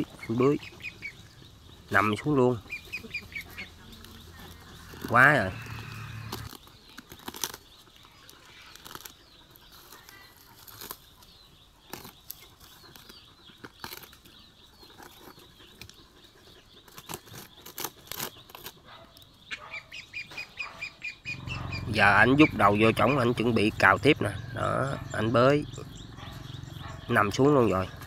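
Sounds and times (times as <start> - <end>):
dog paws scraping soil: 0.0 - 28.0.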